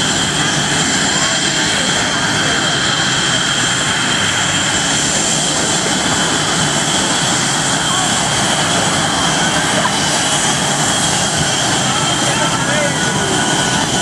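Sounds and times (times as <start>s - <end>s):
jet engines rushing and whining: 0.0s - 14.0s.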